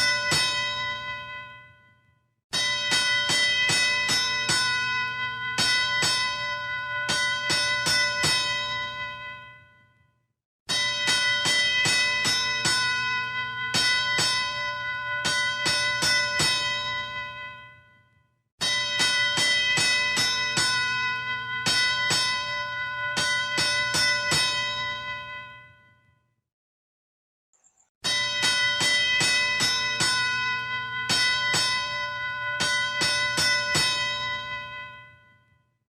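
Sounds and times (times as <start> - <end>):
boxing ring bell struck: 0.0 - 2.0, 2.6 - 9.9, 10.7 - 26.0, 28.0 - 35.6.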